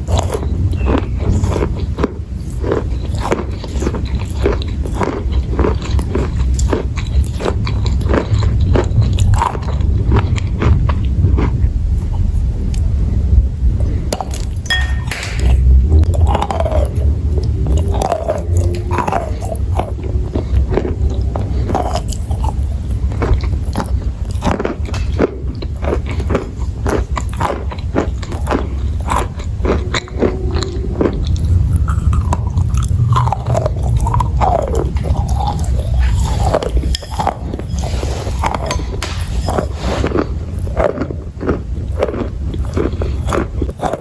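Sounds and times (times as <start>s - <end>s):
chewing brittle chalk: 0.0s - 12.9s, 15.4s - 44.0s.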